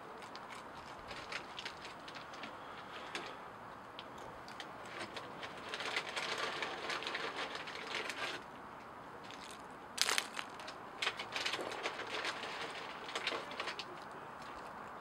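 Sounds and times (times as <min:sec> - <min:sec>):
raccoon crunching potato chips: 0:00.0 - 0:03.4, 0:04.0 - 0:08.4, 0:09.2 - 0:15.0.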